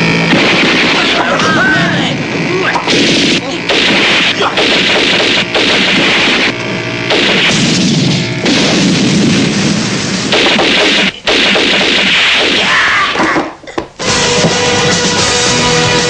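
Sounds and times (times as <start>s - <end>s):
gunshots: 0.0s - 13.5s
explosions: 0.1s - 13.2s.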